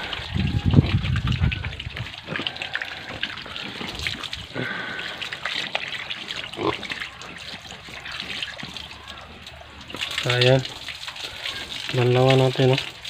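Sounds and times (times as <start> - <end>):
pig calls: 0.0 - 10.2, 11.1 - 11.9
water splashing and trickling: 0.0 - 13.0.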